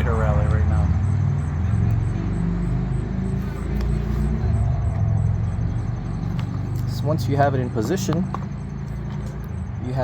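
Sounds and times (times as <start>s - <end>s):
three-wheeler engines running: 0.0s - 10.0s.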